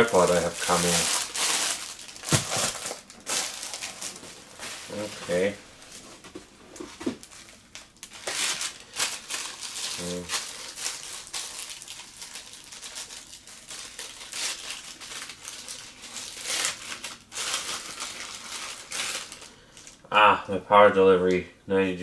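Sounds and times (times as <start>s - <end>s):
packaging crinkling and rustling: 0.0s - 20.0s.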